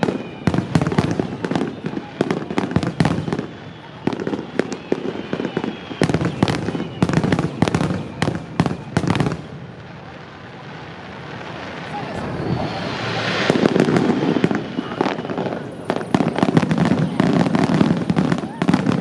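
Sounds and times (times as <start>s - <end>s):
firework hiss: 0.0s - 19.0s
fireworks crackling: 0.0s - 19.0s
fireworks sharp bangs: 0.0s - 19.0s.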